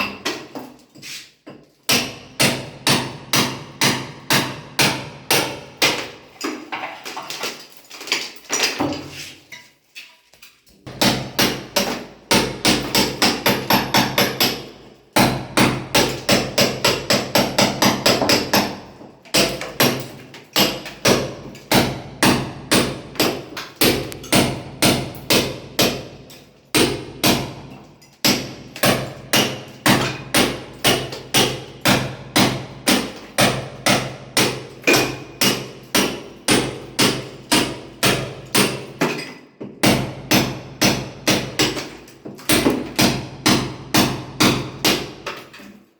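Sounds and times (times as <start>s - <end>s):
hammer striking masonry: 0.0s - 6.6s, 10.8s - 45.6s.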